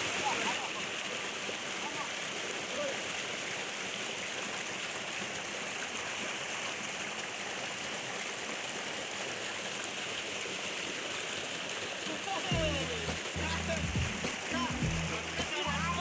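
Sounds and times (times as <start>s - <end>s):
stream flowing over stones: 0.0s - 16.0s.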